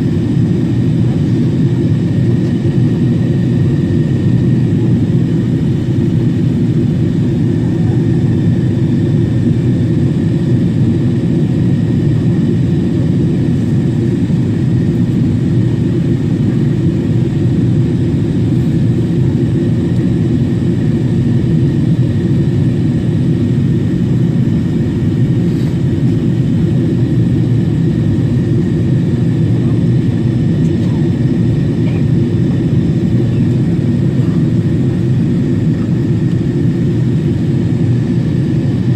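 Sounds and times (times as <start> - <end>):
airliner engine roar: 0.0 - 38.9.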